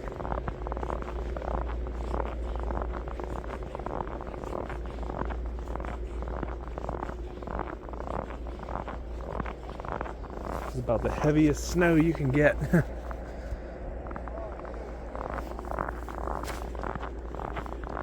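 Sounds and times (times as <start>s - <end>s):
snow crackling: 0.0s - 18.0s
steady low rumble: 0.0s - 18.0s.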